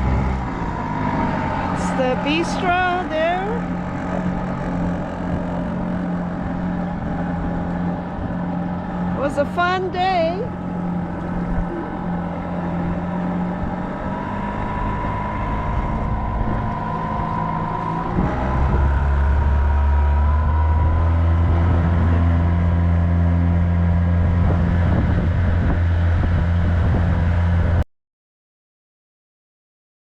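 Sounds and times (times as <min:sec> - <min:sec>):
engine running: 0:00.0 - 0:27.8.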